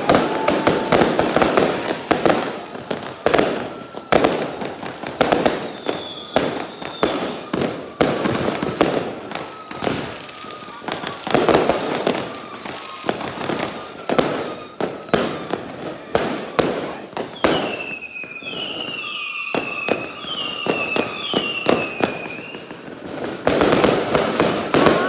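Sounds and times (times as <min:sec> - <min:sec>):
falling firework whistles: 0:00.0 - 0:25.0
fireworks bangs and crackles: 0:00.0 - 0:25.0.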